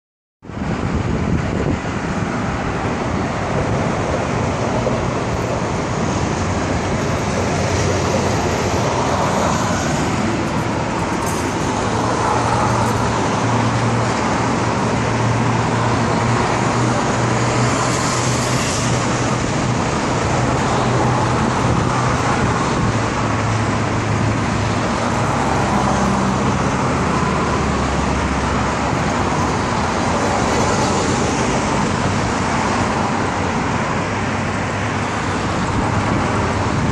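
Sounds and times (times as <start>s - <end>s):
road traffic rushing: 0.4s - 36.9s.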